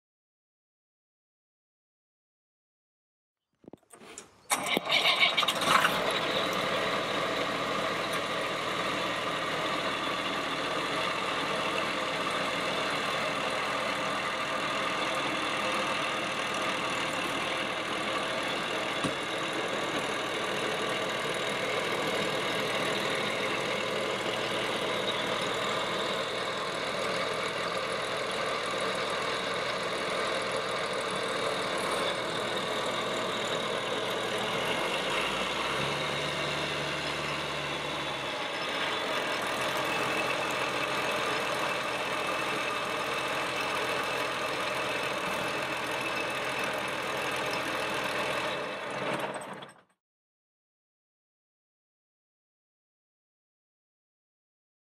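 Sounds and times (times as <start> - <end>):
tractor diesel engine idling: 4.5 - 49.5.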